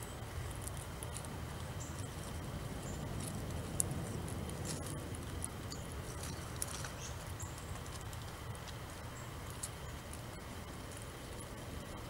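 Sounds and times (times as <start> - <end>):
low background rumble: 0.0 - 12.0
squirrel cracking seeds: 0.0 - 12.0.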